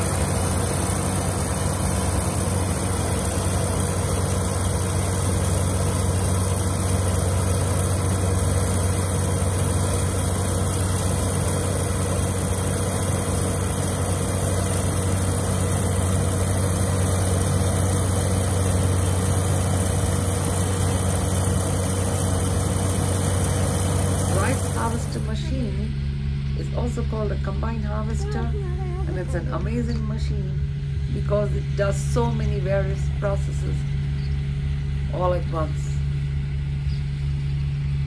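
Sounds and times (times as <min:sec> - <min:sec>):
combine harvester engine hum: 0:00.0 - 0:38.0.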